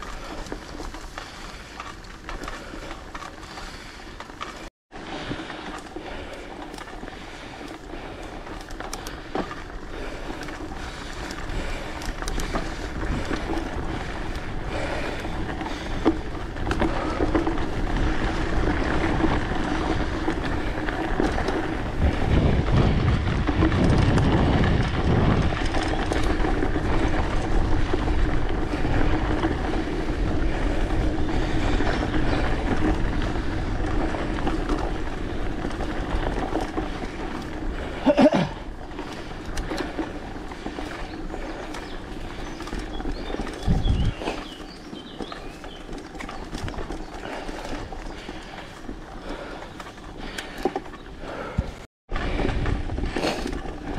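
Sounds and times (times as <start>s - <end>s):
bike tyres rolling on dirt: 0.0s - 53.9s.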